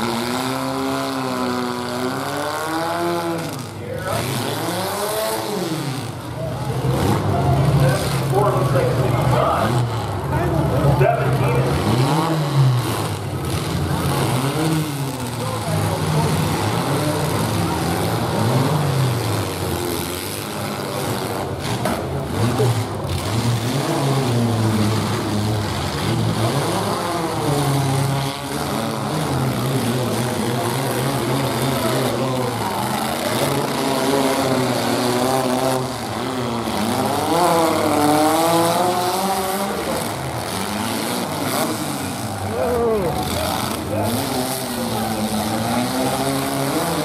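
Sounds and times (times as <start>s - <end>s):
truck engines revving hard: 0.0s - 47.0s.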